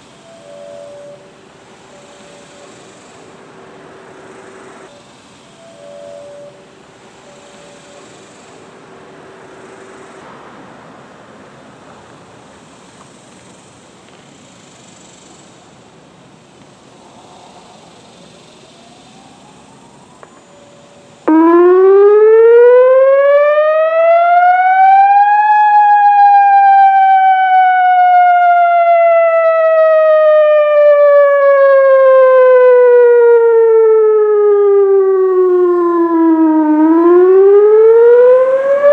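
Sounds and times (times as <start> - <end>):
outdoor warning siren wailing: 0.0 - 10.9, 18.6 - 38.9
faint background noise: 0.0 - 38.9.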